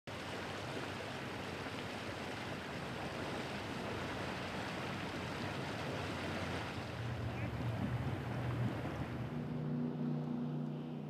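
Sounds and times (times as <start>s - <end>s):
rushing water: 0.1s - 11.0s
wind: 0.1s - 11.0s
boat engine droning: 0.4s - 11.0s.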